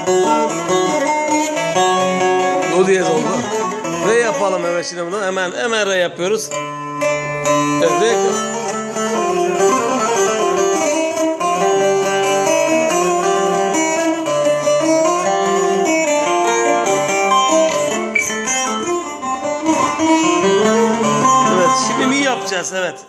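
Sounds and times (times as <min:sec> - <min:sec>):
plucked lute melody: 0:00.0 - 0:23.0.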